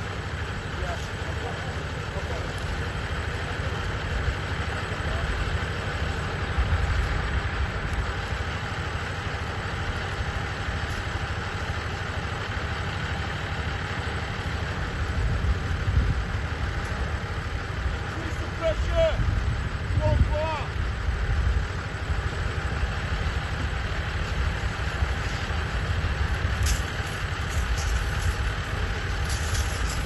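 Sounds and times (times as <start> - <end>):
fire engine pump engine rumble: 0.0 - 30.0.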